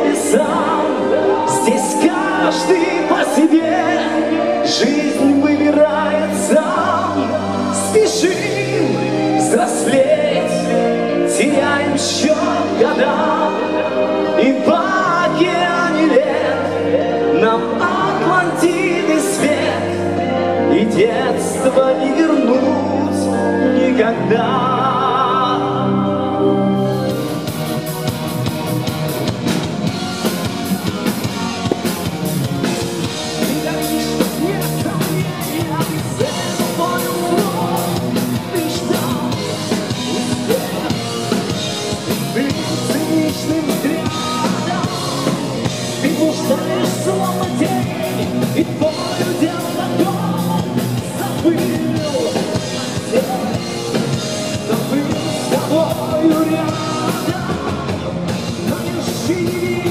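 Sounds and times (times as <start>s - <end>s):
man singing: 0.0s - 27.8s, 30.2s - 59.9s
live rock band: 0.0s - 59.9s.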